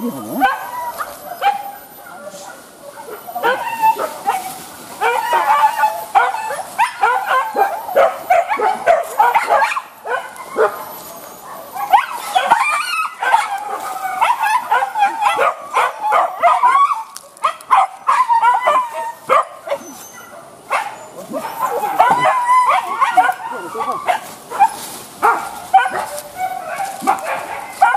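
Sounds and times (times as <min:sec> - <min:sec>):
dogs yelping and barking: 0:00.0 - 0:27.9.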